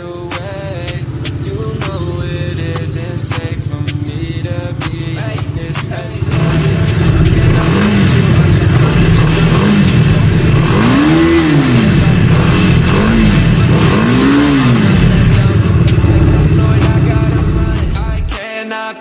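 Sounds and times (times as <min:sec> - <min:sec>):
motorcycle engine idling and revving: 0:00.0 - 0:18.4.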